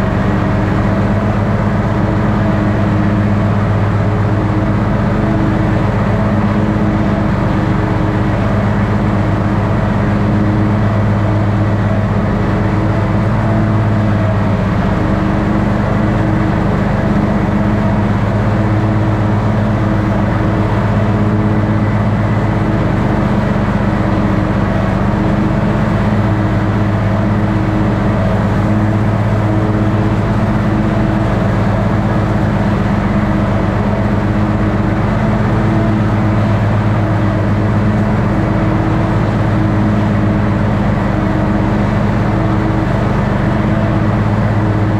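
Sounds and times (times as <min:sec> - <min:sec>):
lawn mower engine droning: 0:00.0 - 0:44.9.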